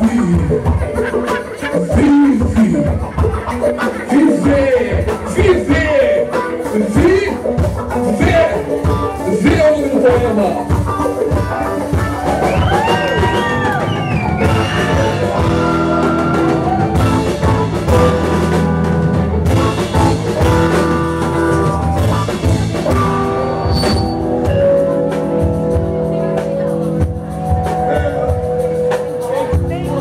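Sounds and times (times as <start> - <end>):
drum kit beat: 0.0 - 30.0
electric guitar: 0.0 - 30.0.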